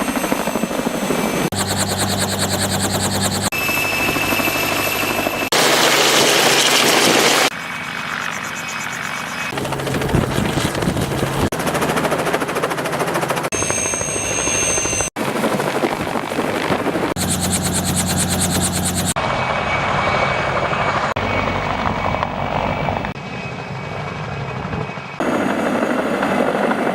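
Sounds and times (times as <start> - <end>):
helicopter rotor and engine: 0.0 - 26.9.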